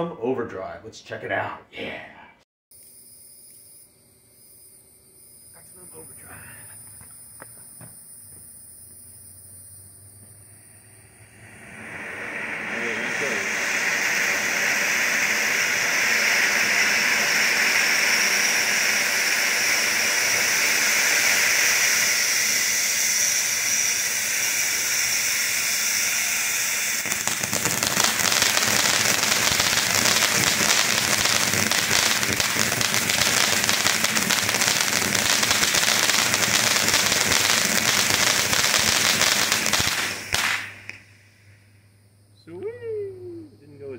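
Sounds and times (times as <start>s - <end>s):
firework fountain hissing and crackling: 5.5s - 42.0s.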